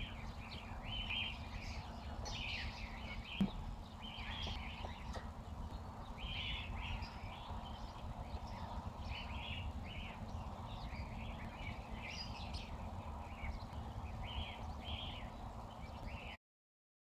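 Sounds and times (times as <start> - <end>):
small birds chirping: 0.0 - 16.4
steady low rumble: 0.0 - 16.4.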